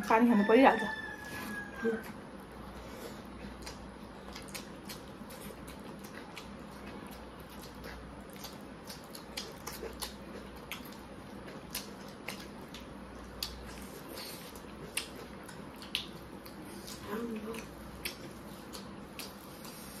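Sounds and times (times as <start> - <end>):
chewing and mouth smacks: 3.0 - 20.0.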